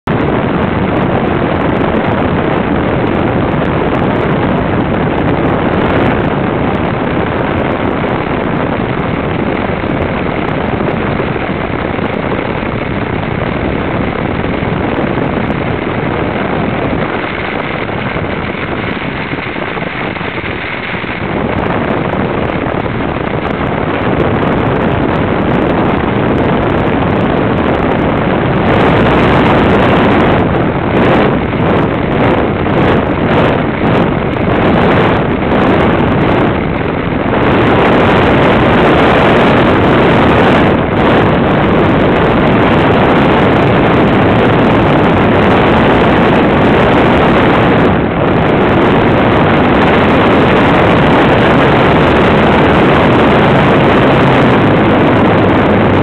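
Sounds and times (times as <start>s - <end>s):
wind noise on microphone: 0.0s - 56.0s
model airplane engine running: 0.1s - 56.0s.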